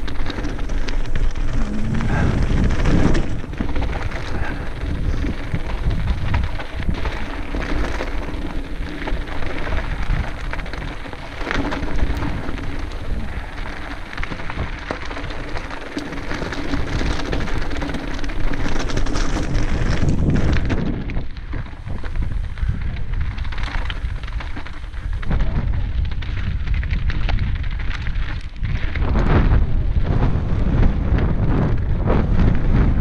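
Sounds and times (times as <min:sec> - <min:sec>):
bike clattering: 0:00.0 - 0:30.0
bike tyres crunching over stones: 0:00.0 - 0:33.0
wind rumble on microphone: 0:00.0 - 0:33.0.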